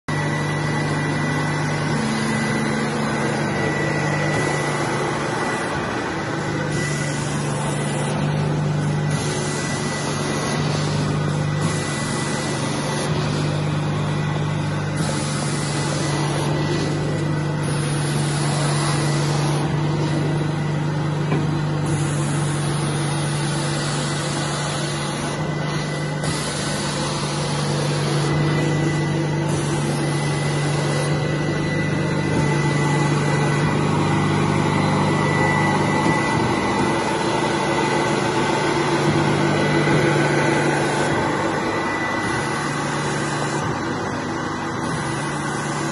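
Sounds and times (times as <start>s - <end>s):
carpet steam cleaner humming: 0.0s - 45.9s.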